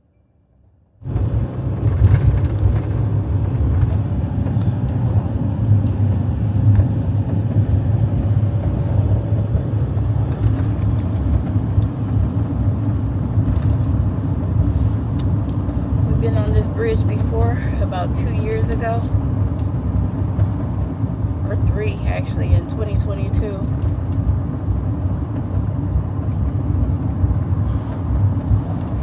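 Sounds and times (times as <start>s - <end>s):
van driving on road: 1.0s - 29.0s.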